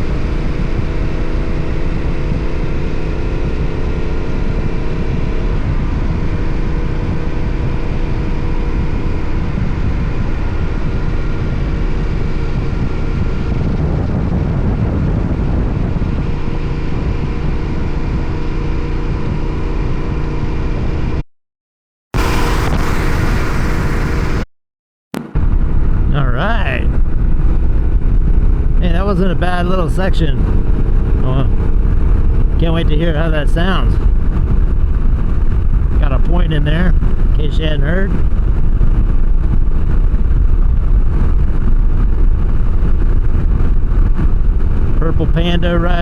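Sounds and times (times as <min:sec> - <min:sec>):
motorcycle engine at road speed: 0:00.0 - 0:21.2, 0:22.2 - 0:24.5, 0:25.2 - 0:46.0
wind rush: 0:00.0 - 0:21.2, 0:22.2 - 0:24.5, 0:25.2 - 0:46.0.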